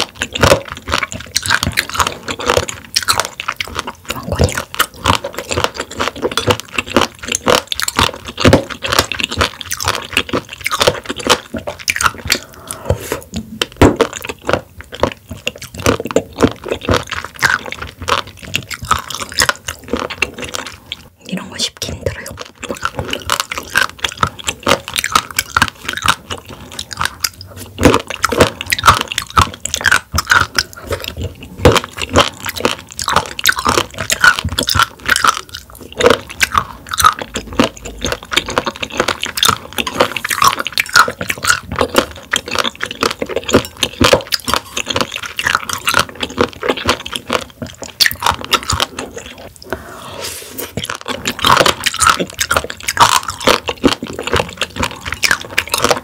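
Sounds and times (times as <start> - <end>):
clicking chewing bites: 0.0 - 21.1, 22.1 - 49.8, 50.7 - 56.0.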